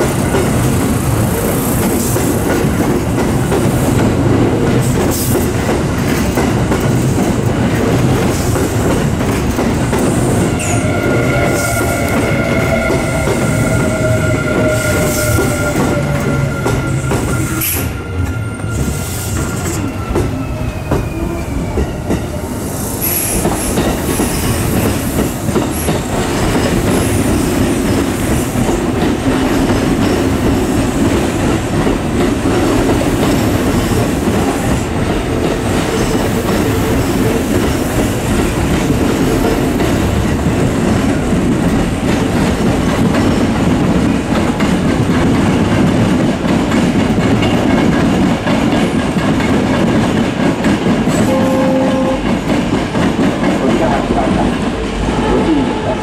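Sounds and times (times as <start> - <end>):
train high whine: 0.0 - 56.0
wheels rumbling on rail: 0.0 - 56.0.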